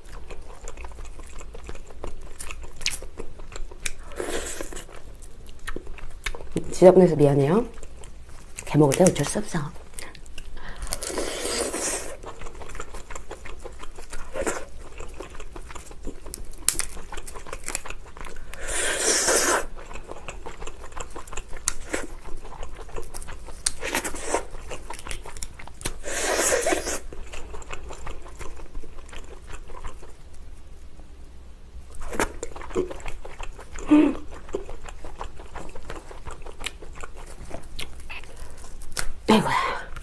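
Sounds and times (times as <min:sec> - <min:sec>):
wet chewing with crunching: 0:00.0 - 0:30.7, 0:31.9 - 0:39.3.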